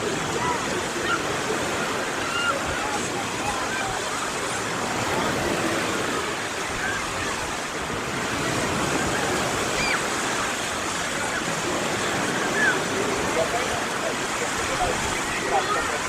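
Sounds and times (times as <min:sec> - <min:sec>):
waves washing onto shore: 0:00.0 - 0:16.0.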